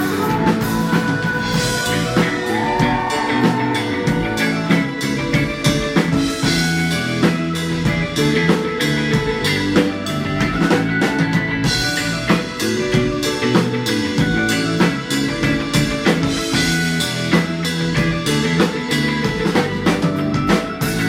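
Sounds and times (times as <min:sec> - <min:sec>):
drum kit beating: 0:00.0 - 0:21.0
rock band playing: 0:00.0 - 0:21.0.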